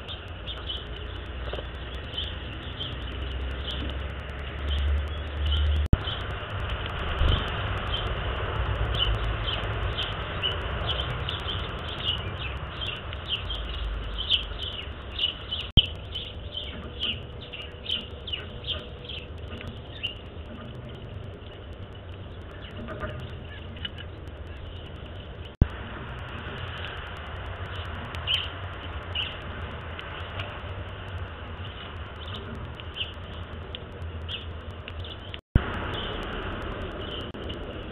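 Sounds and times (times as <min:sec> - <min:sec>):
birds chirping: 0:00.0 - 0:37.9
low rumble: 0:00.0 - 0:37.9
sharp clicks: 0:00.0 - 0:37.9.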